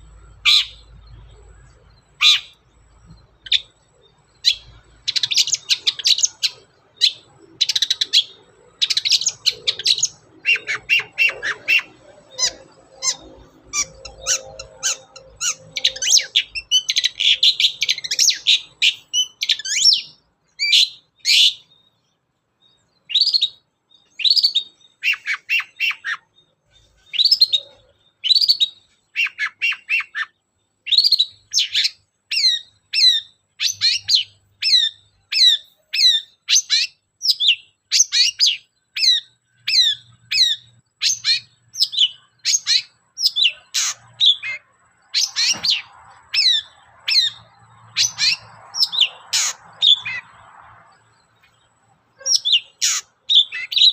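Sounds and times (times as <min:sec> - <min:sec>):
bird chirping: 0:00.0 - 0:53.9.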